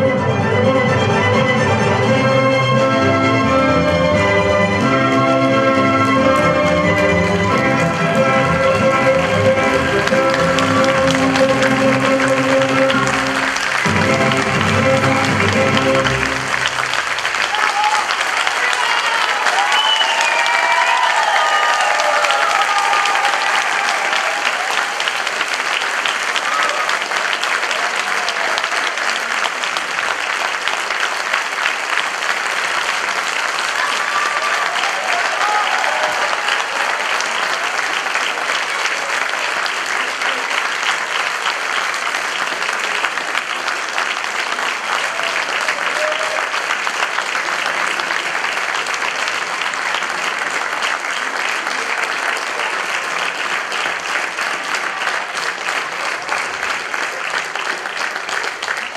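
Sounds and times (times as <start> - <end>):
audience applauding: 1.1 - 58.9.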